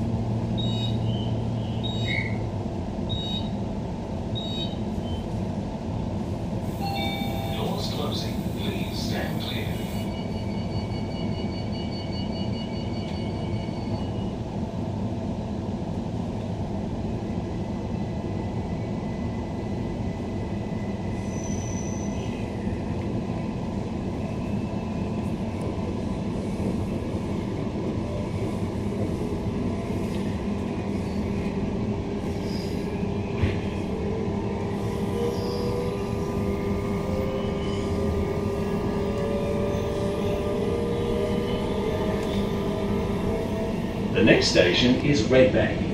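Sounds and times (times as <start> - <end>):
train interior rumble: 0.0 - 45.9.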